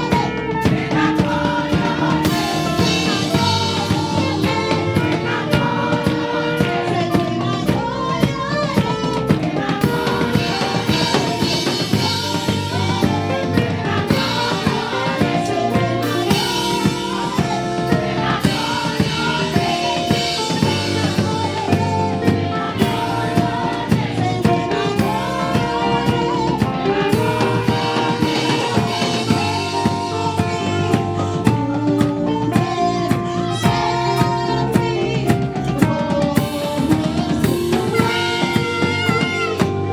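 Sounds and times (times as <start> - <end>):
band with drum kit: 0.0 - 39.9
choir singing: 0.0 - 39.9.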